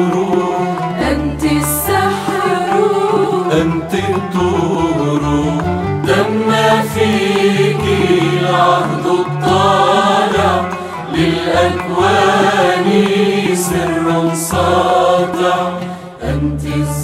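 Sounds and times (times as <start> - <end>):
hymn melody with vibrato: 0.0 - 17.0.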